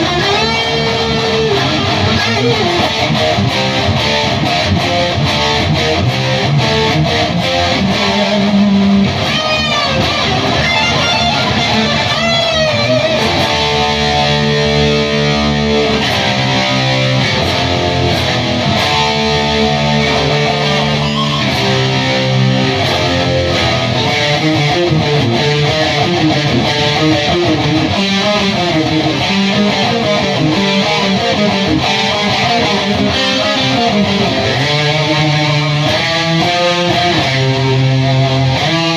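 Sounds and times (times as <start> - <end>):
electric guitar riffs: 0.0 - 38.9.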